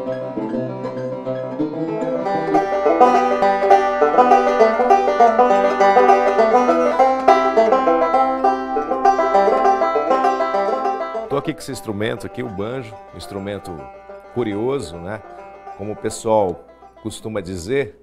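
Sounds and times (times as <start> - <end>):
banjo picked fast: 0.0 - 17.6.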